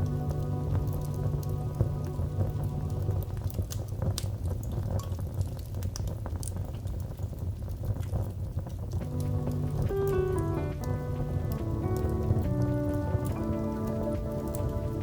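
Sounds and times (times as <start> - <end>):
soft background music: 0.0 - 7.2, 8.5 - 15.0
wood fire crackling: 0.0 - 15.0.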